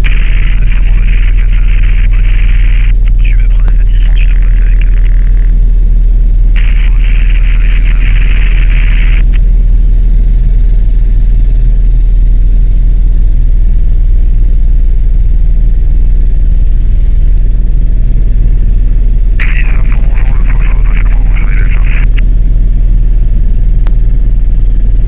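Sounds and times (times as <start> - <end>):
helicopter engine and rotors drone: 0.0 - 25.0.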